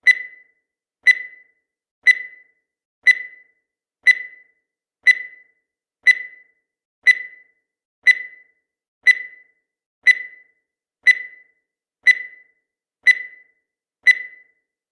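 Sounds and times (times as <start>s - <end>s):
timer tick with ringing tone: 0.0s - 14.9s.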